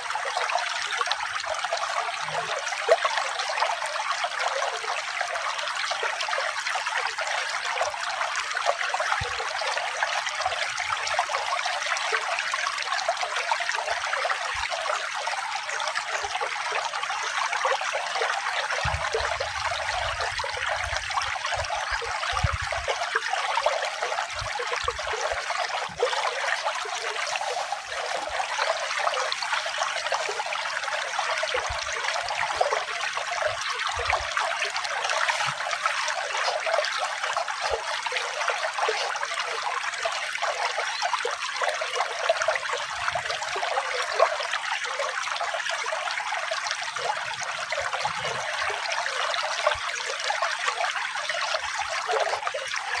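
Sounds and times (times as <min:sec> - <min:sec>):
running water trickling: 0:00.0 - 0:53.0.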